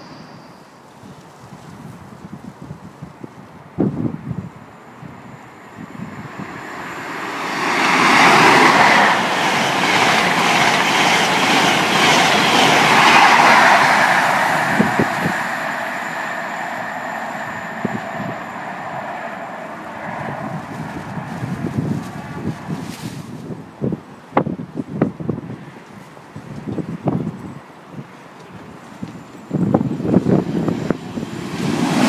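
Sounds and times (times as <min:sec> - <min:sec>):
train wheels rushing on rail: 0:03.8 - 0:24.6, 0:26.6 - 0:32.0.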